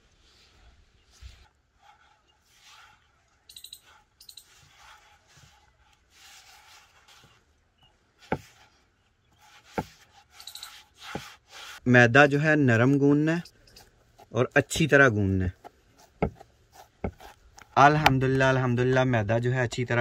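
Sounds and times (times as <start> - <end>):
dough squishing and rubbing: 0.2 - 11.9, 13.0 - 18.6.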